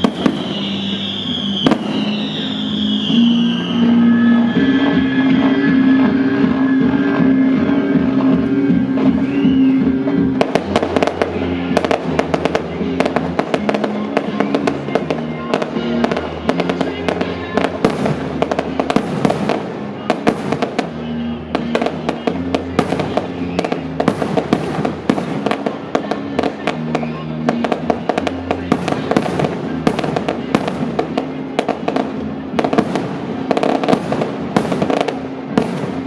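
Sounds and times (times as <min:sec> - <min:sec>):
fireworks bangs and crackles: 0:00.0 - 0:36.0
music playing: 0:00.0 - 0:36.0.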